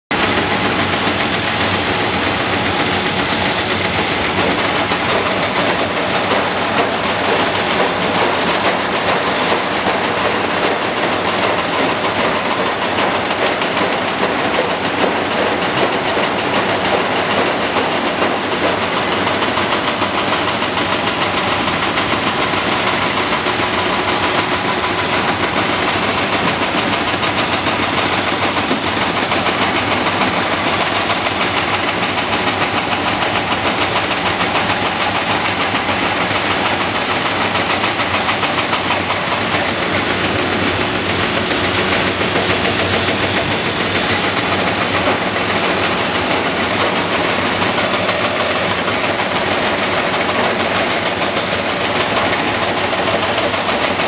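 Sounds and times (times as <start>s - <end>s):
excavator diesel engine and hydraulics: 0.1s - 54.0s.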